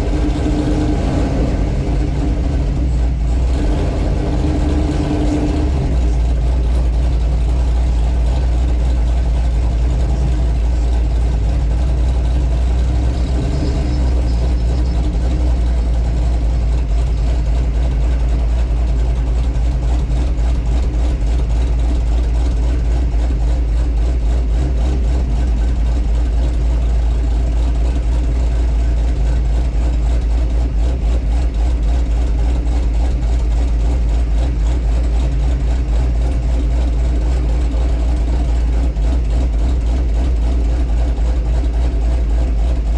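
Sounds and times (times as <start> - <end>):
pickup truck engine rumbling: 0.0 - 42.9.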